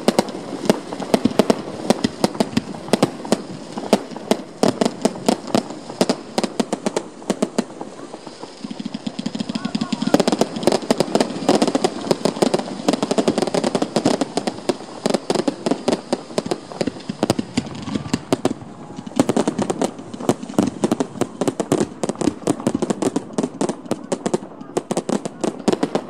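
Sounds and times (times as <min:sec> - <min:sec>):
fireworks cracking and banging: 0:00.0 - 0:26.0.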